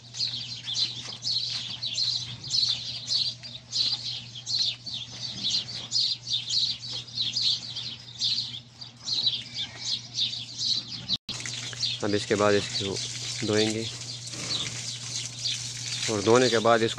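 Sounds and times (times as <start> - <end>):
small birds chirping: 0.0 - 16.9
steady low hum: 0.0 - 16.9.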